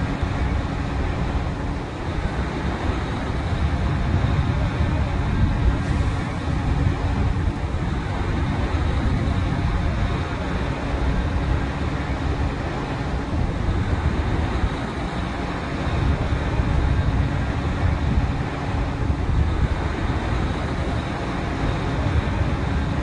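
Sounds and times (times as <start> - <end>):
drilling rig machinery din: 0.0 - 23.0.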